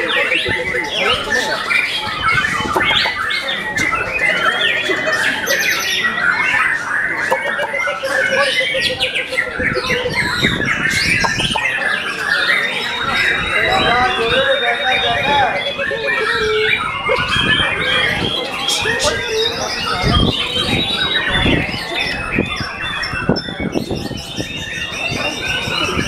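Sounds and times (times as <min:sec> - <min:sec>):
birds singing: 0:00.0 - 0:26.0.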